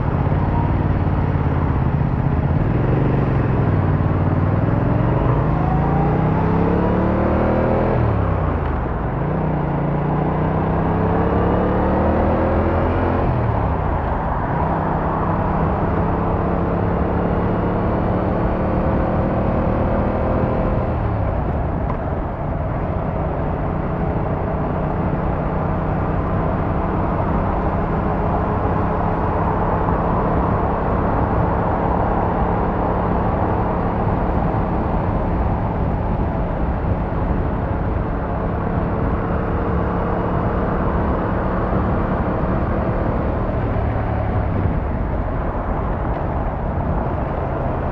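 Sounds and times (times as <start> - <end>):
motorcycle engine and exhaust: 0.0 - 47.9
wind and road rush: 0.0 - 47.9.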